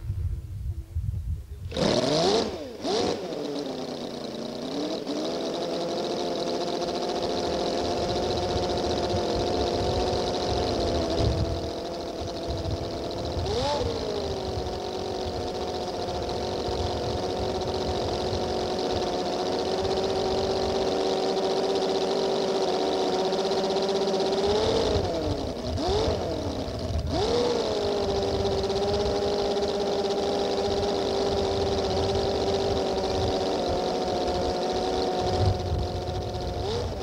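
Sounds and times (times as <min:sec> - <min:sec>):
model aero engine running: 0:00.8 - 0:37.0.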